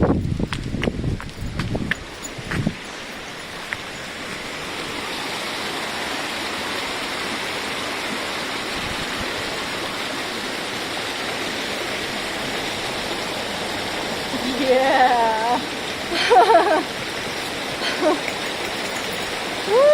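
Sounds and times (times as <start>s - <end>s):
river water rushing: 1.4s - 19.9s.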